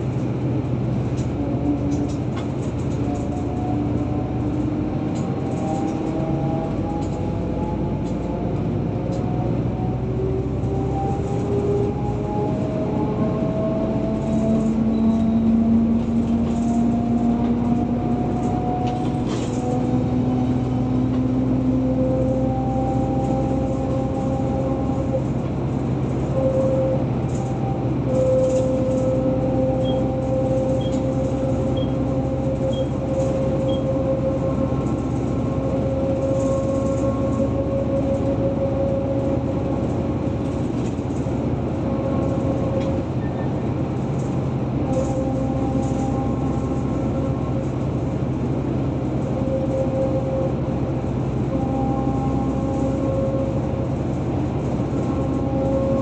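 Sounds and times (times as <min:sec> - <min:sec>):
car tyre and engine drone: 0:00.0 - 0:56.0.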